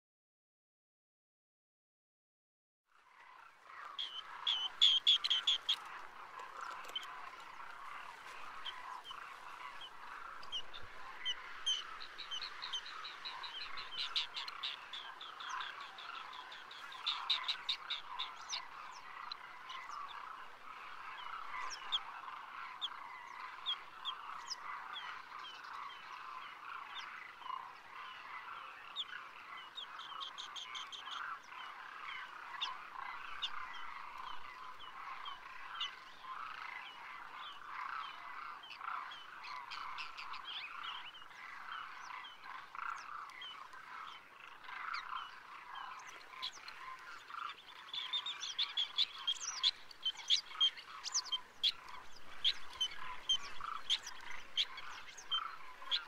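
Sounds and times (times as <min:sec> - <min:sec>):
background chorus of bird calls: 0:02.9 - 0:56.0
bee-eaters trilling calls: 0:03.8 - 0:56.0.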